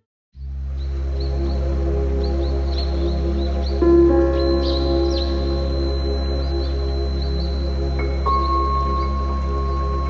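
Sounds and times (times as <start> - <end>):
ambient music with drone: 0.4 - 10.0.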